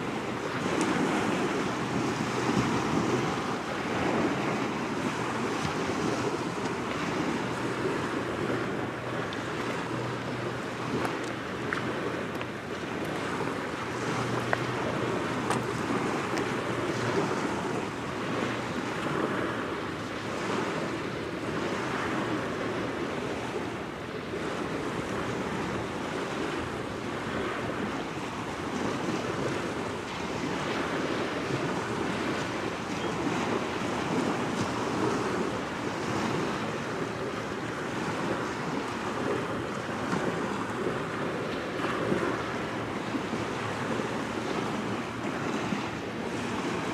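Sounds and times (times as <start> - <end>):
waves washing onto shore: 0.0 - 46.9
wind on microphone: 0.0 - 46.9.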